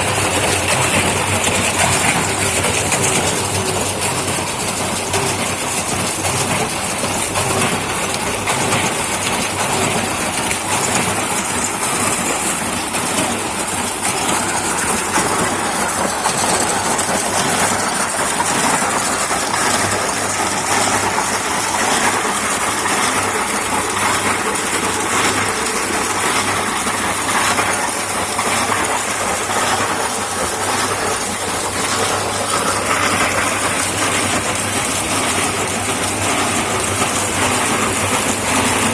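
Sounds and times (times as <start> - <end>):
concrete mixer churning: 0.0 - 38.9.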